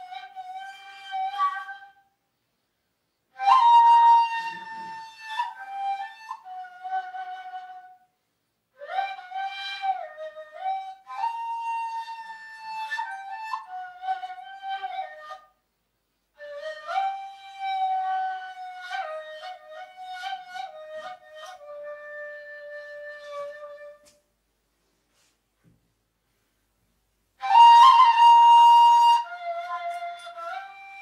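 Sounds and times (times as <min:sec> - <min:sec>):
reed flute playing solo: 0:00.0 - 0:02.1, 0:03.3 - 0:08.1, 0:08.8 - 0:15.6, 0:16.4 - 0:24.2, 0:27.4 - 0:31.0.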